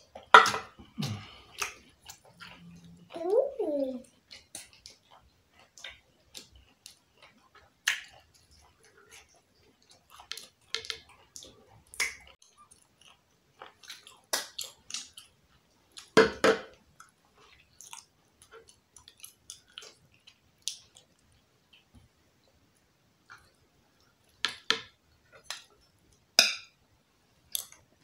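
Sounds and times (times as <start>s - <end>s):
chewing and wet mouth sounds: 0.0s - 24.6s, 27.4s - 28.0s.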